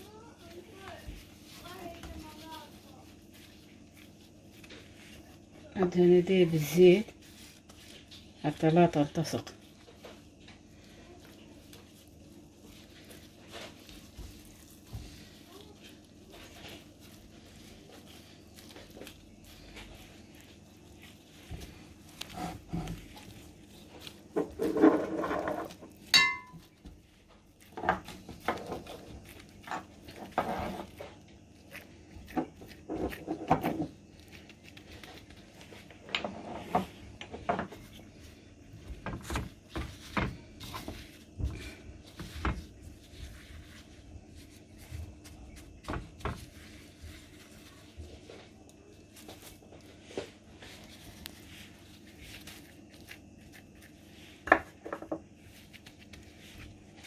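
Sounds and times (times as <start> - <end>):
hands squishing minced meat: 0.0 - 57.0.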